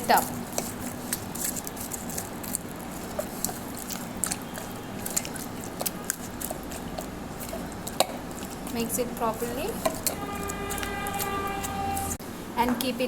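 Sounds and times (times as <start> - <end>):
chicken squelching in marinade: 0.1 - 12.2.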